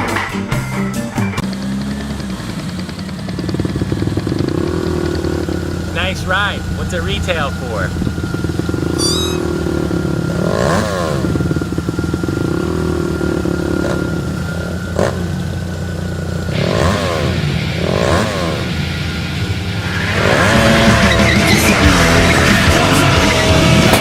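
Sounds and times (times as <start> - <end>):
motorcycle engine running: 1.4 - 24.0.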